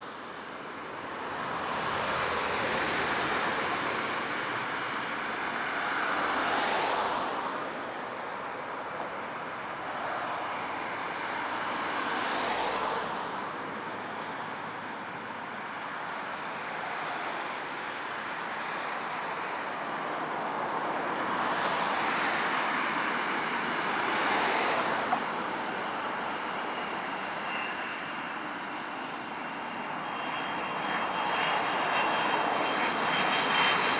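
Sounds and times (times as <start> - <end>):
jet airliner whine: 0.1 - 33.9
road traffic passing: 1.2 - 33.9.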